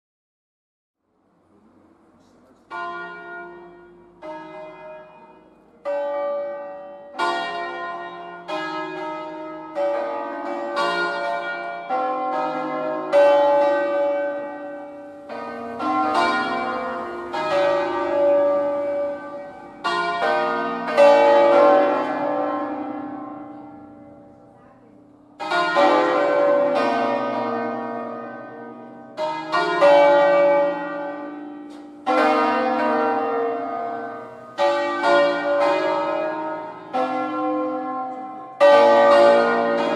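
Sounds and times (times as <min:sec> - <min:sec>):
church bells pealing: 0:02.6 - 0:39.9.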